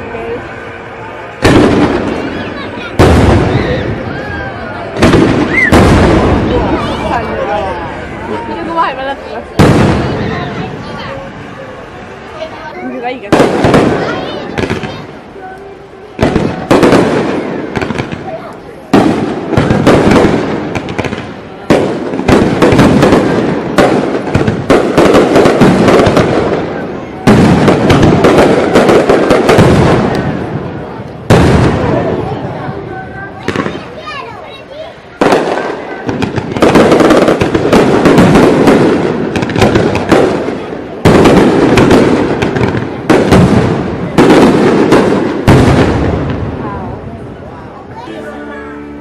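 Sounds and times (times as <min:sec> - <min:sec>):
fireworks bangs and crackling: 0:00.0 - 0:48.8.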